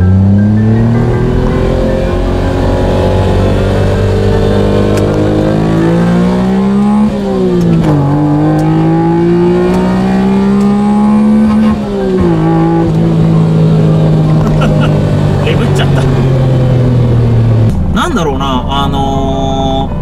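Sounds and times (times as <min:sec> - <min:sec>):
car engine revving hard: 0:00.0 - 0:18.2.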